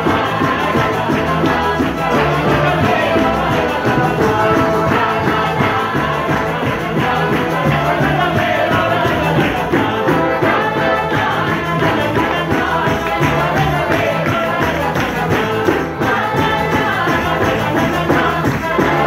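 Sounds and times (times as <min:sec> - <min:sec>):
accordion: 0:00.0 - 0:19.0
double bass: 0:00.0 - 0:19.0
person singing: 0:00.0 - 0:19.0
tambourine beat: 0:00.0 - 0:19.0.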